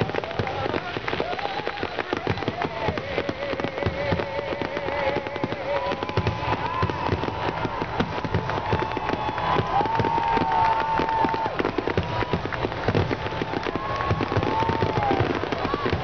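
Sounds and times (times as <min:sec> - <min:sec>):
firework whistle: 0:00.0 - 0:16.0
fireworks bangs and crackles: 0:00.0 - 0:16.0.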